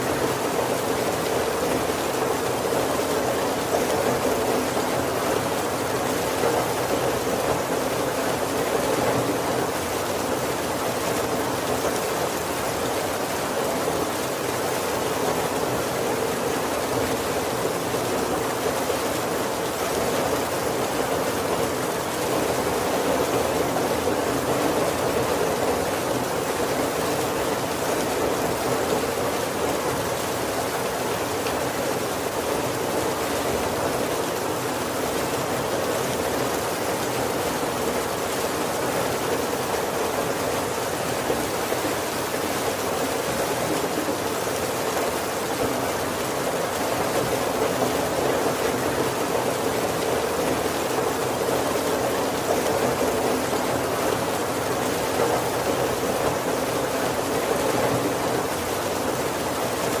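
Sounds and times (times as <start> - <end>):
heavy rain on roof and windows: 0.0 - 60.0.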